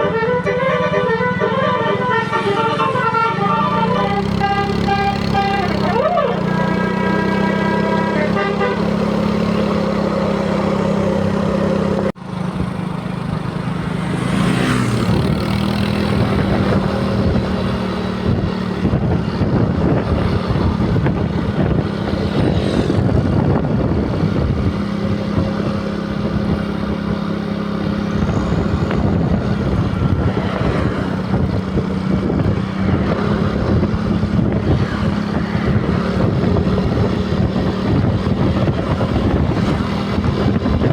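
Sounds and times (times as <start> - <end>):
bus engines running: 0.0 - 40.9
traffic noise: 0.0 - 40.9.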